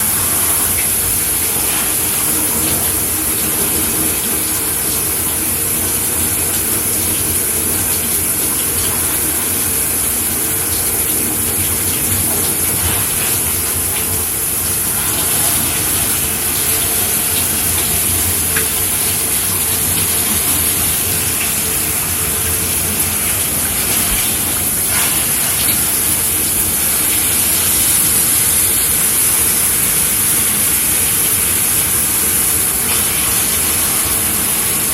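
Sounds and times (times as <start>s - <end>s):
shower water spraying: 0.0s - 34.9s.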